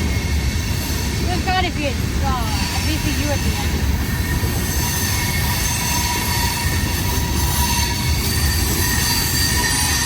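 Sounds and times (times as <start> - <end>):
freight train cars rumbling: 0.0 - 10.0
wheels squealing: 0.0 - 10.0.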